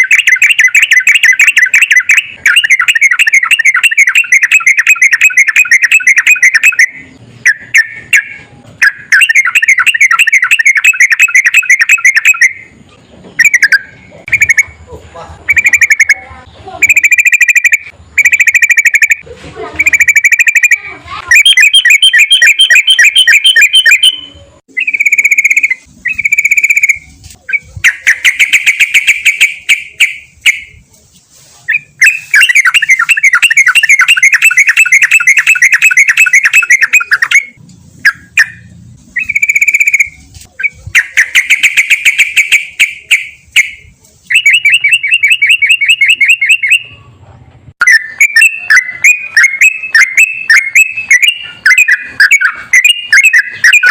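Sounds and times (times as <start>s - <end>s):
bulbul singing whistles and trills: 0.0s - 12.8s, 13.4s - 14.8s, 15.5s - 19.2s, 19.8s - 30.8s, 31.7s - 47.0s, 47.8s - 53.9s.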